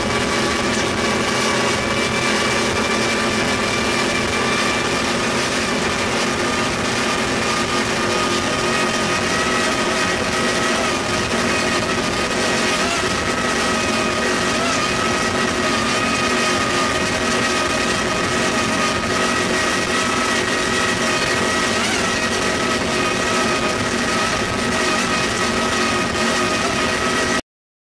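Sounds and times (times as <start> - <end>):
powerboat engines at high speed: 0.0 - 27.4.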